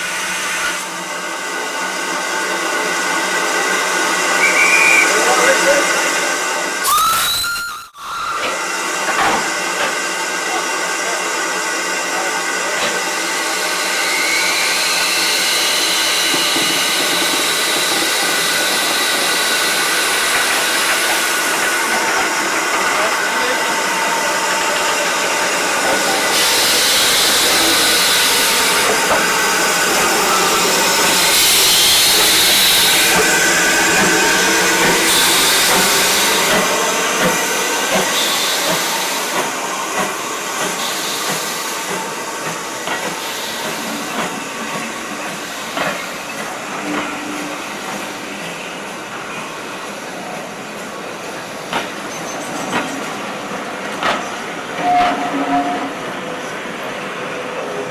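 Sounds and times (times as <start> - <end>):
steam locomotive hissing: 0.0 - 57.9.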